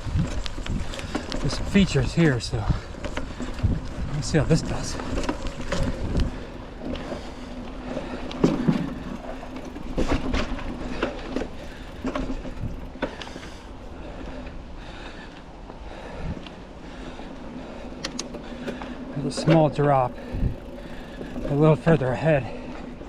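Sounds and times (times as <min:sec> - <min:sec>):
bike clunking and rattling: 0:00.0 - 0:23.0
bike tyres rumbling on dirt trail: 0:00.0 - 0:23.0.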